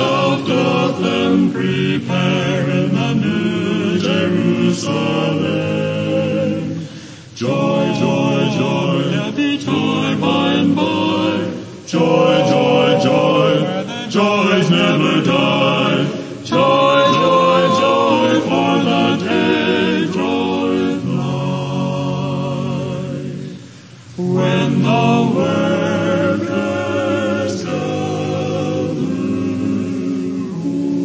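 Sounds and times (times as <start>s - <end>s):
vocal quartet singing a hymn: 0.0s - 31.0s.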